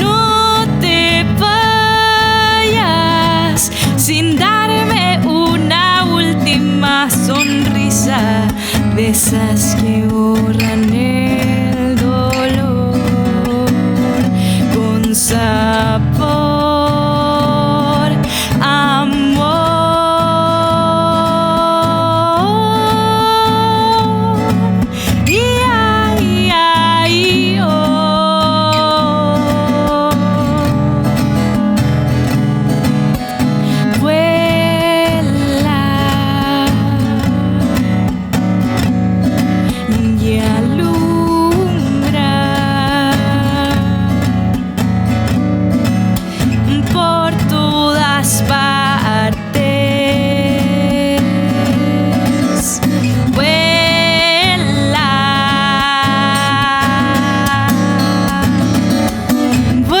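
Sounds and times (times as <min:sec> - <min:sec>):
person singing: 0:00.0 - 0:38.2, 0:39.6 - 0:44.8, 0:46.4 - 1:00.0
acoustic guitar strumming: 0:00.0 - 1:00.0.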